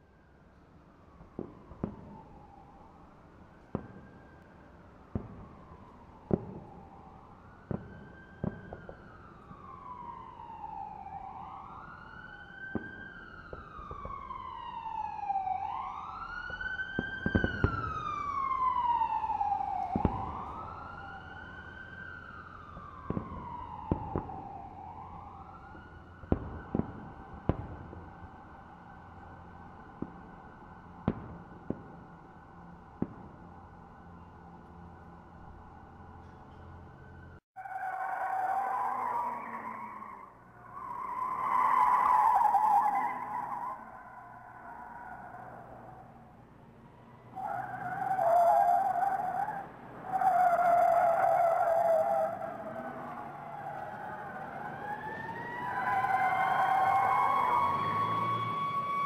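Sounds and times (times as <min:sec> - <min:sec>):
emergency siren wailing: 0:00.0 - 0:59.0.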